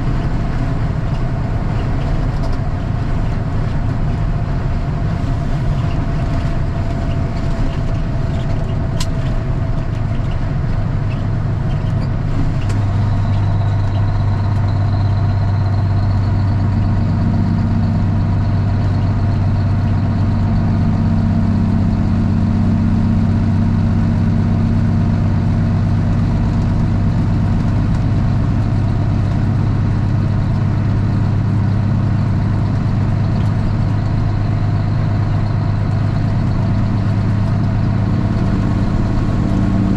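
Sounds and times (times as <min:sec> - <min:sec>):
diesel truck engine exhaust: 0:00.0 - 0:39.9.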